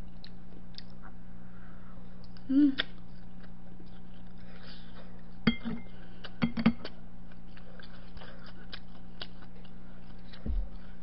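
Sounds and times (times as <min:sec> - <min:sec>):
person chewing food: 0:00.0 - 0:01.2, 0:02.1 - 0:11.0
steady low hum: 0:00.0 - 0:11.0.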